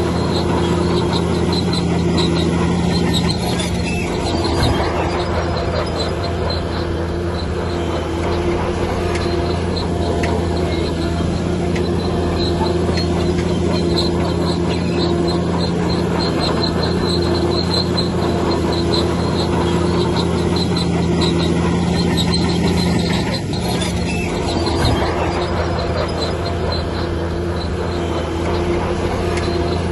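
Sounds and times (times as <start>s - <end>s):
heavy diesel machinery running: 0.0s - 29.9s
rapid high squeaking: 0.0s - 29.9s.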